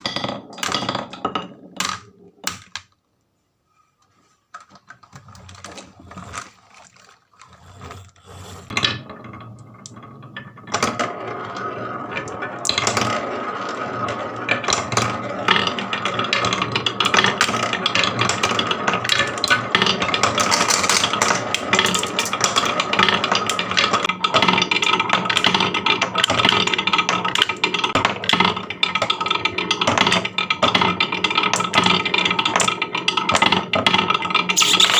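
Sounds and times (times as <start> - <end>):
marbles rolling on wooden track: 0.0 - 3.0, 7.6 - 34.9.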